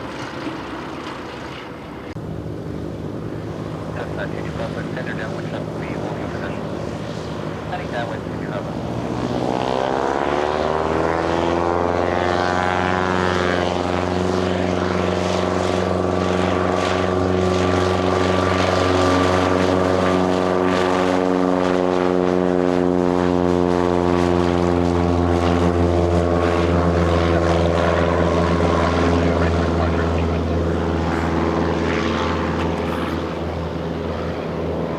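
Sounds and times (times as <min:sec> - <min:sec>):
airplane engine and propeller: 0:00.0 - 0:34.9.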